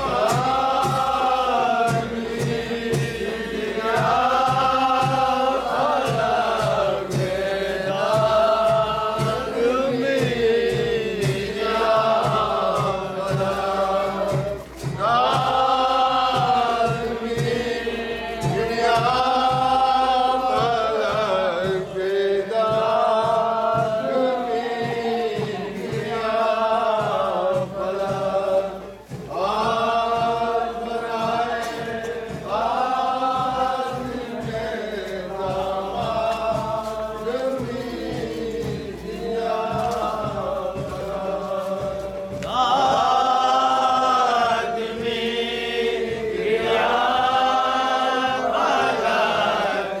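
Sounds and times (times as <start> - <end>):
group of men chanting: 0.0 - 50.0.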